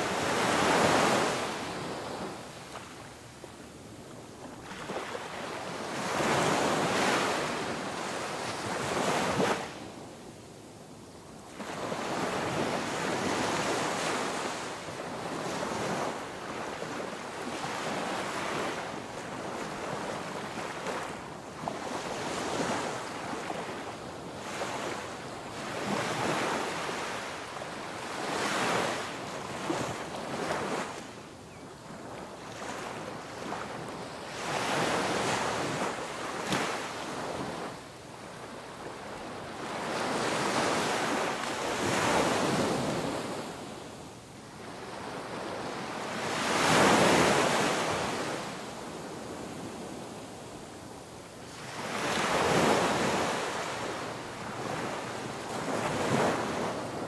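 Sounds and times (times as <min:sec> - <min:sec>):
ocean waves breaking on shore: 0:00.0 - 0:03.1, 0:11.6 - 0:31.2, 0:31.9 - 0:43.9, 0:44.5 - 0:50.1, 0:51.4 - 0:57.0.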